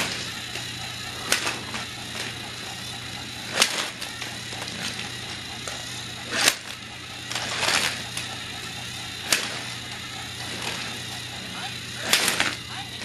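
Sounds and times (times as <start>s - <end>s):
steady low hum: 0.0s - 13.0s
toy train plastic clatters: 0.0s - 13.0s.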